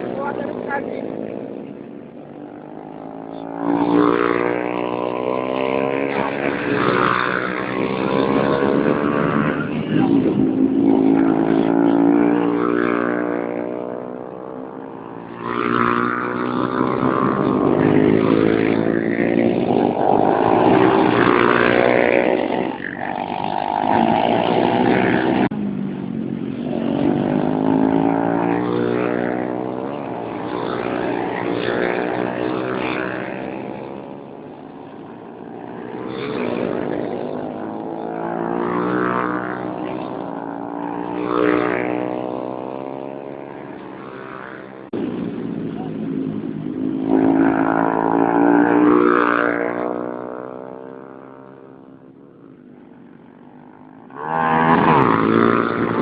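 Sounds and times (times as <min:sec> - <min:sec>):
racing motorcycle engines: 0:00.0 - 0:56.0.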